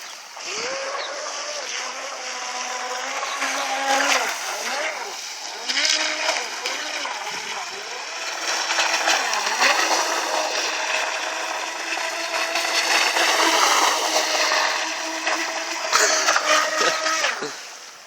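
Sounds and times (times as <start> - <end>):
water spray hiss: 0.0 - 0.7, 1.6 - 18.0
electric motor whine: 0.0 - 18.0.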